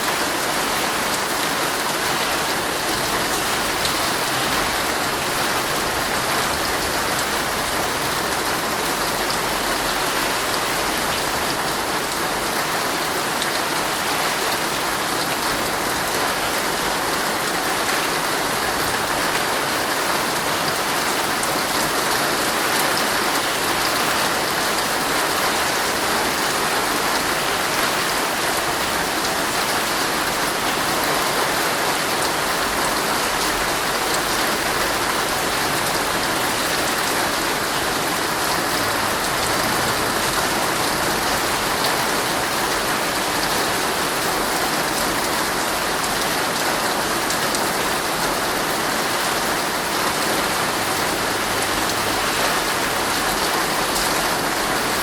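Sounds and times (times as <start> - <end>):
heavy rain drumming on a tent: 0.0 - 55.0.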